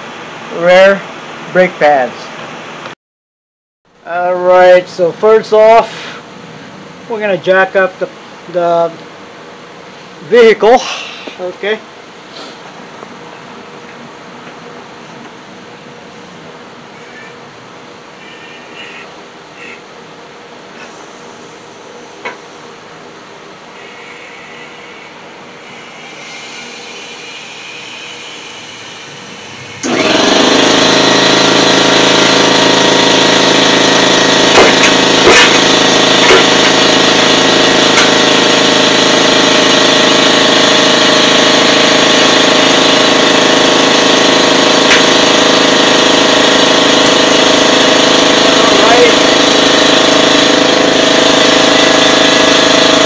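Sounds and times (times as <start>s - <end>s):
air compressor motor running: 4.1s - 9.0s, 9.8s - 13.4s, 17.8s - 53.0s.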